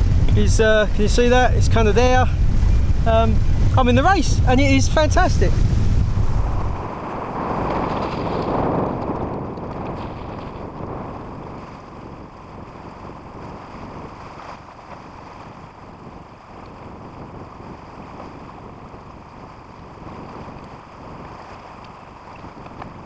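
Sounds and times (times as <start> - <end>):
water rushing past hull: 0.0 - 23.0
wind buffeting microphone: 0.0 - 23.0.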